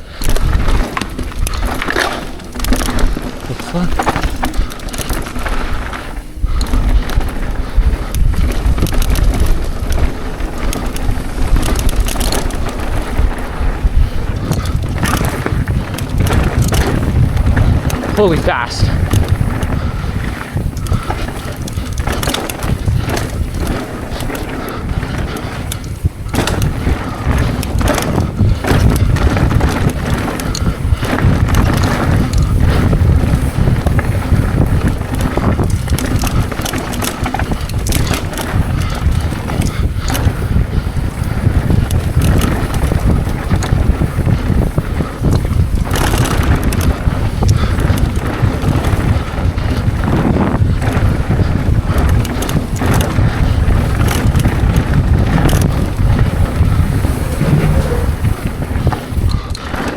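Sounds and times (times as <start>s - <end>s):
bike knocking and rattling: 0.0s - 59.9s
wind buffeting microphone: 0.0s - 59.9s.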